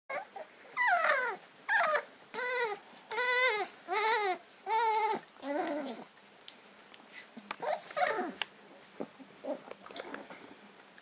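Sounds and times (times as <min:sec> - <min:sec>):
puppy whining: 0:00.1 - 0:06.1, 0:07.6 - 0:10.6.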